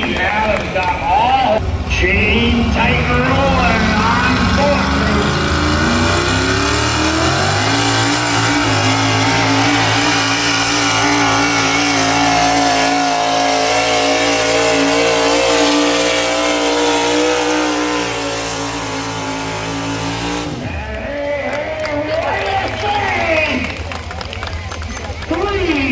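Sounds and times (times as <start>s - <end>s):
tractor engine running under load: 0.0s - 25.9s.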